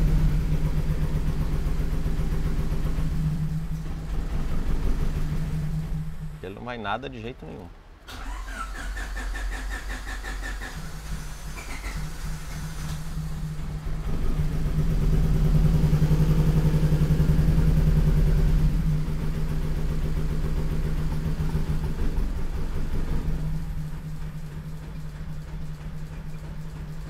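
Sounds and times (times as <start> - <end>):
car engine cranking: 0.0 - 6.6, 8.1 - 27.0.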